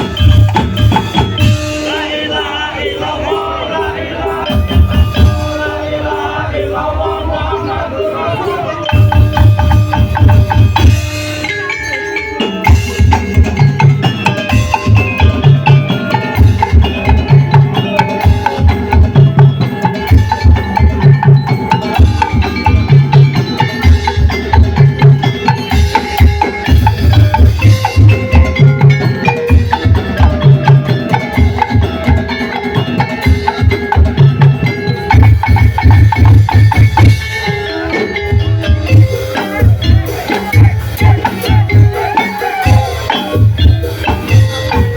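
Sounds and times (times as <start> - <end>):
pitched percussion melody: 0.0 - 44.9
wood blocks and drums: 0.0 - 44.9.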